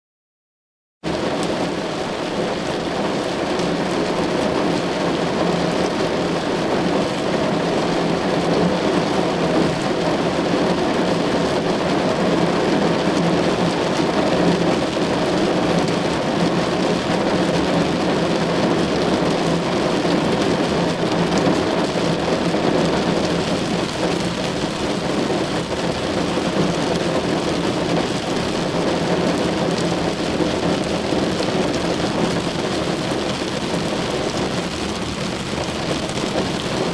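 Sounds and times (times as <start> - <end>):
rain drumming on car roof: 1.1 - 36.9.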